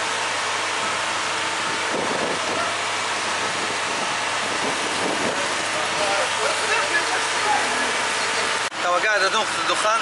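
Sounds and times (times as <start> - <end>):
diesel engine at raised revs: 0.0 - 10.0.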